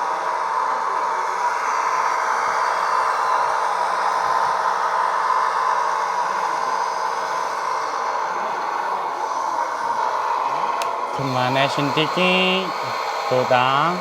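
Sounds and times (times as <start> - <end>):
hydraulic pump whine: 0.0 - 14.0.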